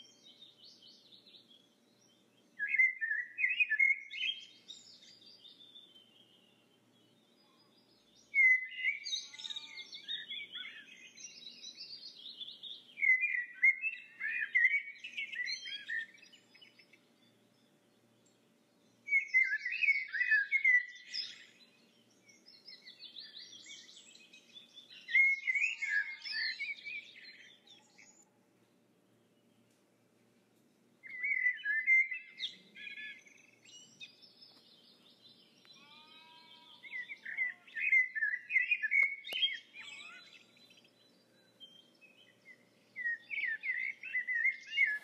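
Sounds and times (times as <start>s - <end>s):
songbird chirping and trilling: 0.0s - 29.9s, 30.6s - 45.0s.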